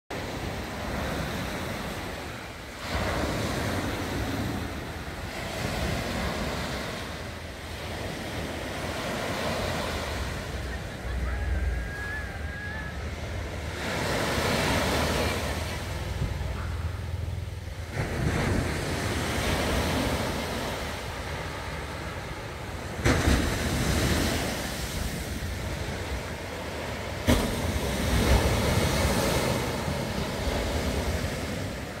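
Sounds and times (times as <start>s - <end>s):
sea waves breaking on sand: 0.1s - 32.0s
wind rumbling on microphone: 0.2s - 32.0s.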